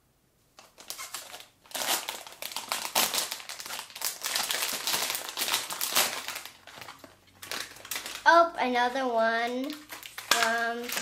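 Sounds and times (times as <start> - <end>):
plastic packet crinkling: 0.6 - 8.4, 9.2 - 11.0.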